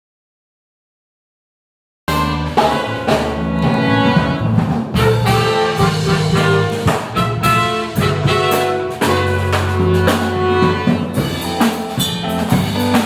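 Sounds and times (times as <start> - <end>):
brass band playing jazz-rock: 2.1 - 13.0.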